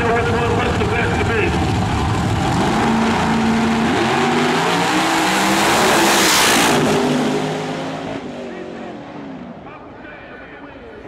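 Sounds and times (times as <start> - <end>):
race car engines accelerating: 0.0 - 11.0.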